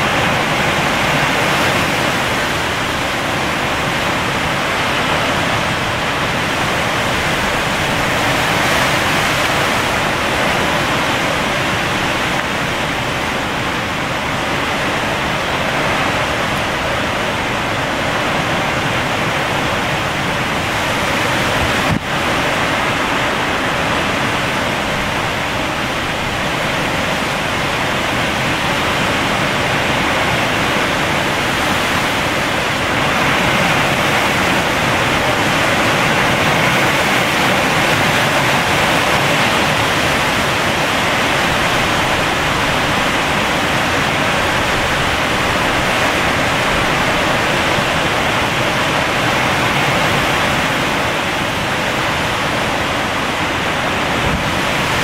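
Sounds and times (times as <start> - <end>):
driving rain: 0.0 - 55.0
strong wind through trees: 0.0 - 55.0.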